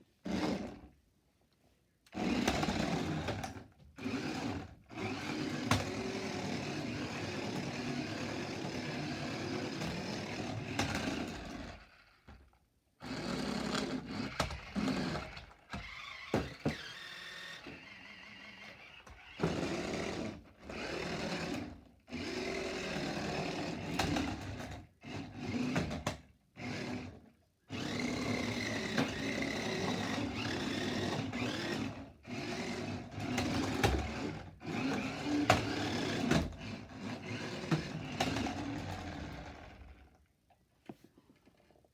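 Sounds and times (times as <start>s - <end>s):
toy car electric motor whirring: 4.0s - 12.4s, 13.0s - 26.0s, 26.6s - 40.1s.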